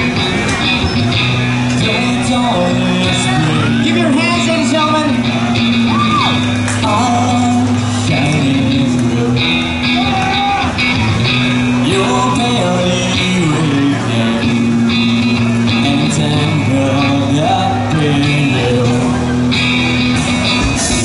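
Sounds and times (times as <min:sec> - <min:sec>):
live rock band playing: 0:00.0 - 0:21.0
male lead singer: 0:00.0 - 0:21.0.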